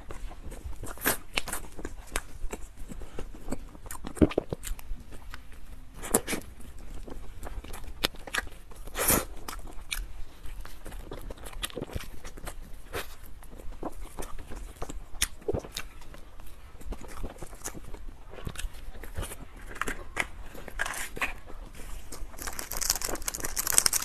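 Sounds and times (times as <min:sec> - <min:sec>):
person chewing soft bun: 0:00.0 - 0:24.0.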